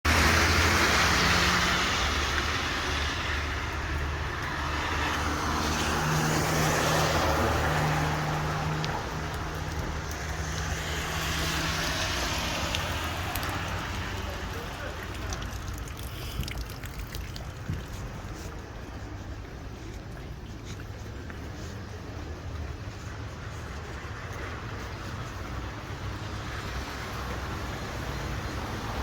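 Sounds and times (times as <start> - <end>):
engine hum: 0.1 - 29.0
tyres hissing on wet road: 0.1 - 29.0.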